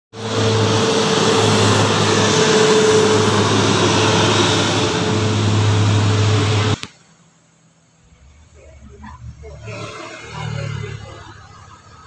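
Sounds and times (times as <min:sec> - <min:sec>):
bus engine driving past: 0:00.1 - 0:12.0.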